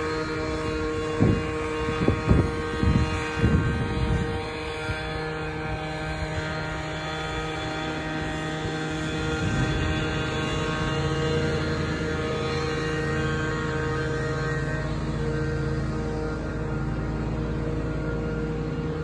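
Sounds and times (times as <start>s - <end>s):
lawn mower engine droning: 0.0s - 19.0s.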